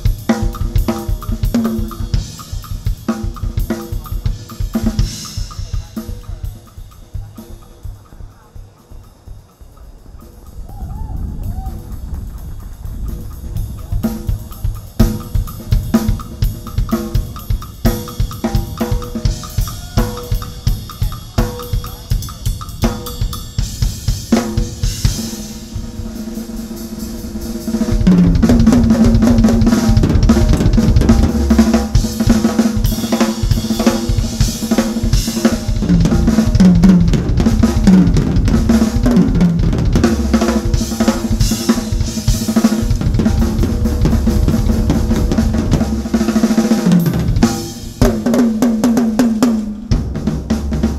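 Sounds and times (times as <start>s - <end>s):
acoustic drum kit playing: 0.0s - 50.9s.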